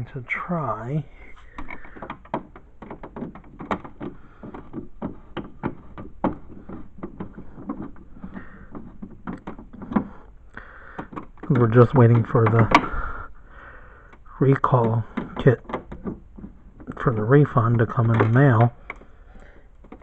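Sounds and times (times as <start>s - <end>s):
irregular clicks and knocks: 1.0s - 20.0s.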